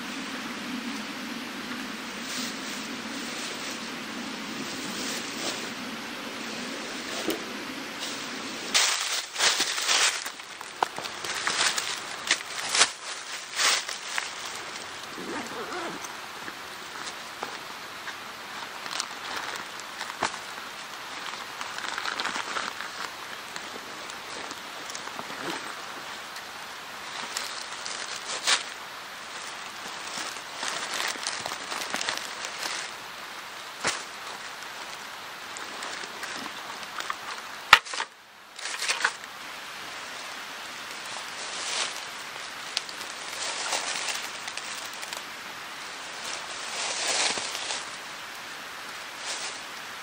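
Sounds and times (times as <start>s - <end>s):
backpack and clothing rustling: 6.4s - 37.6s, 40.4s - 50.0s.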